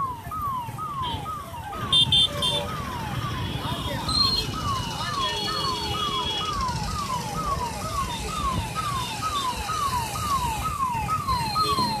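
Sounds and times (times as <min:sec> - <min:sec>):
electronic siren sweeping: 0:00.0 - 0:12.0.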